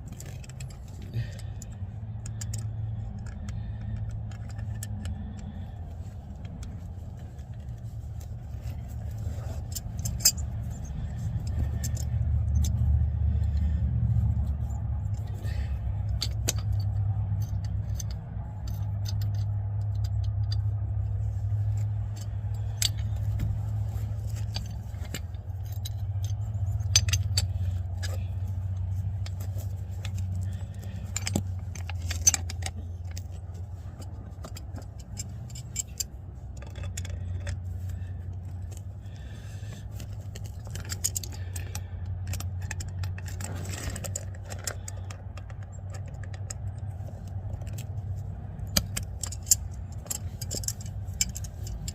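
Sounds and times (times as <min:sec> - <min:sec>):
metal tools clinking and scraping: 0:00.0 - 0:51.9
steady low rumble: 0:00.0 - 0:51.9.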